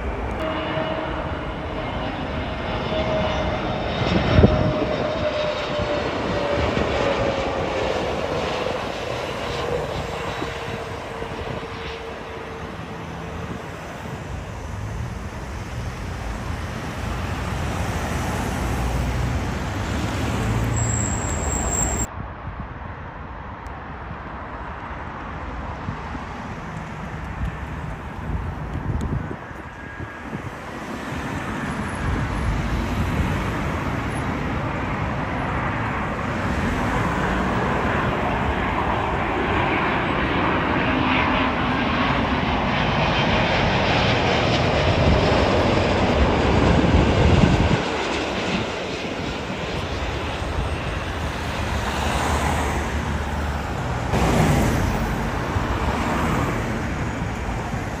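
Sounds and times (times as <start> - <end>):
airliner jet engines passing overhead: 0.0 - 58.0.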